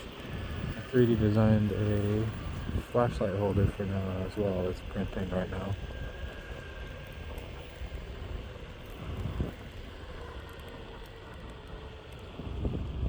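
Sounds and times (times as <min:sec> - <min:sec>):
skateboard wheels rumbling on pavement: 0:00.0 - 0:13.0.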